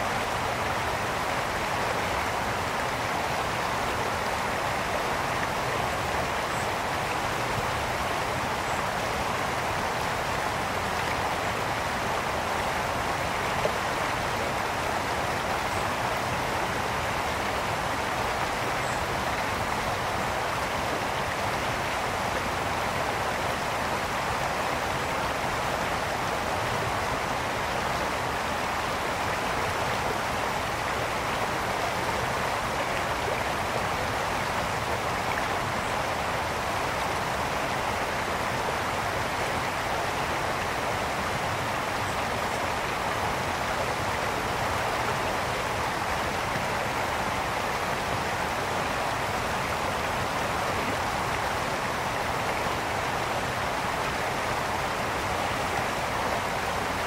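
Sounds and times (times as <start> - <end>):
brook water splashing over stones: 0.0 - 57.0.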